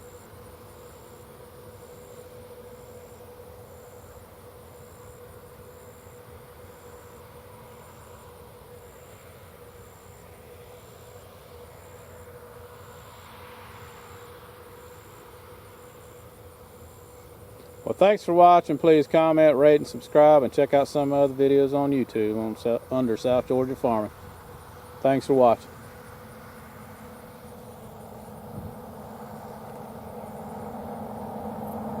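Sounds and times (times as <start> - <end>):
distant farm machinery hum: 0.0 - 32.0
engine running: 0.0 - 32.0
insects chirping: 0.0 - 32.0.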